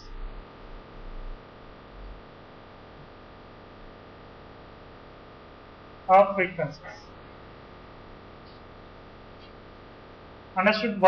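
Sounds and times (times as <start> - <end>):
background hiss and hum: 0.0 - 11.0.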